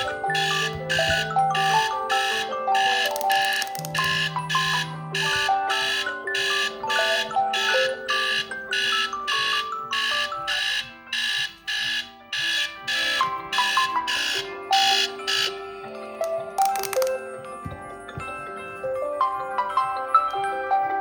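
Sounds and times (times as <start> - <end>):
synthesized melody: 0.0 - 18.3.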